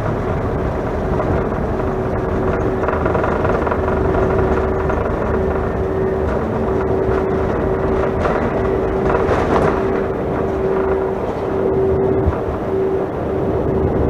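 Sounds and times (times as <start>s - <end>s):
jet engine drone: 0.0s - 14.0s
steady hum-like tone: 0.0s - 14.0s.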